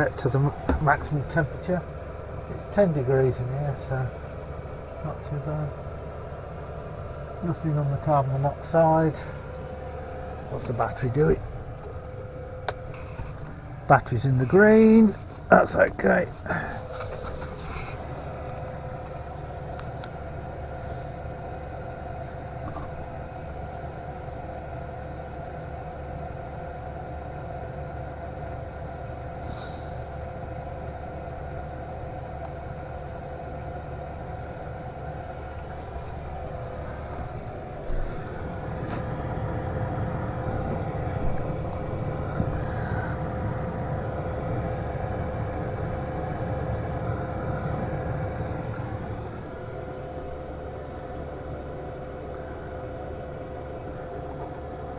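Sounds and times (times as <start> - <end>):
diesel air heater rumbling: 0.0 - 54.9
fan whine: 0.0 - 54.9.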